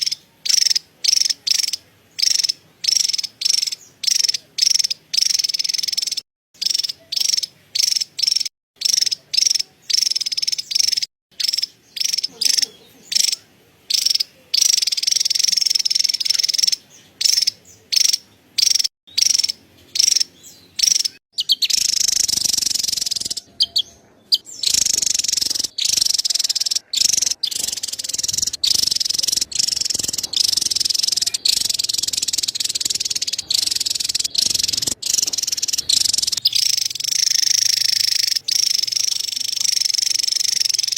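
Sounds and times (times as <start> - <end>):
bird chattering call: 0.0 - 40.9.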